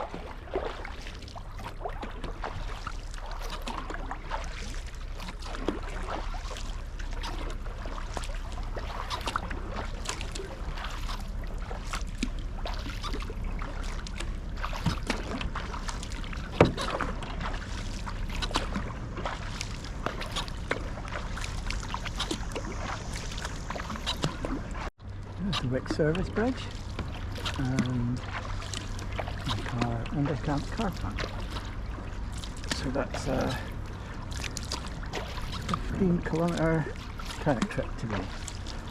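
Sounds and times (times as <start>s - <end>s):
paddle splashing in water: 0.0s - 38.9s
steady low rumble: 0.0s - 38.9s
water running off paddles: 0.0s - 38.9s.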